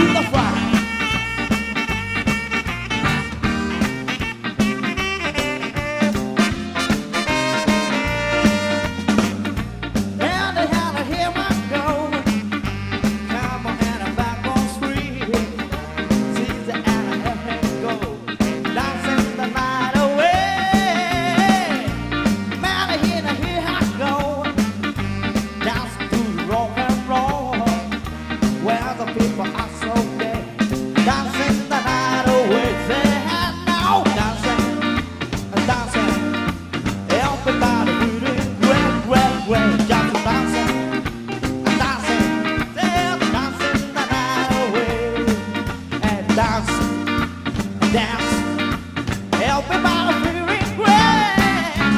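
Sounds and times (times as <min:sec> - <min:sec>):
live band playing: 0:00.0 - 0:51.9.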